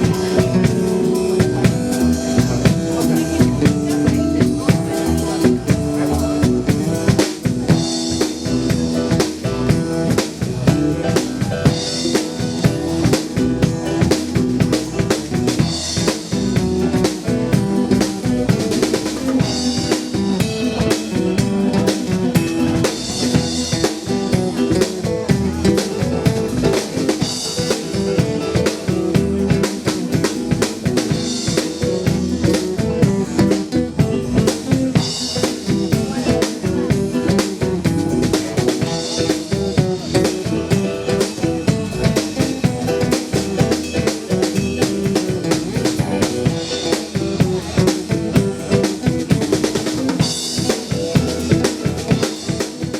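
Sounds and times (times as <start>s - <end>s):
bass and guitar: 0.0s - 52.9s
drum kit rock beat: 0.0s - 52.9s.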